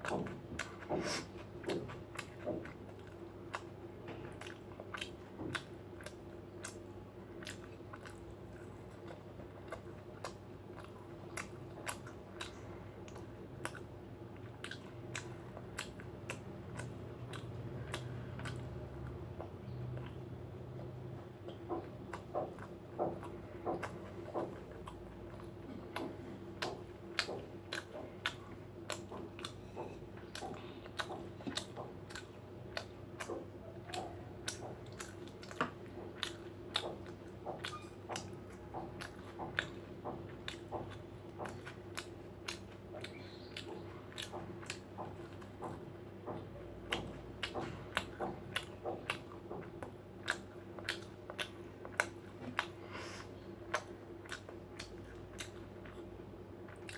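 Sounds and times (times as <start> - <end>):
crunchy chewing: 0.0 - 56.9.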